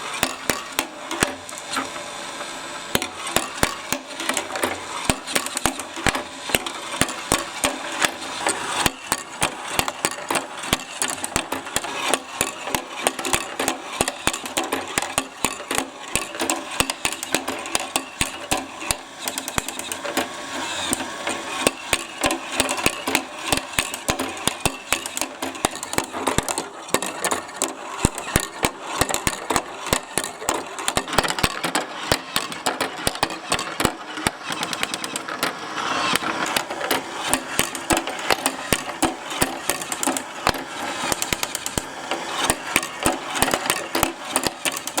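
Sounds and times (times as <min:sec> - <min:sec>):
marbles clattering on plastic tracks: 0:00.0 - 0:02.0, 0:02.9 - 0:45.0.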